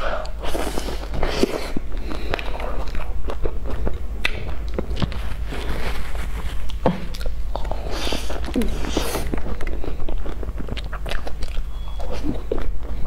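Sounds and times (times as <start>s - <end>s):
person chewing pastry: 0.0s - 13.0s
steady low hum: 0.0s - 13.0s.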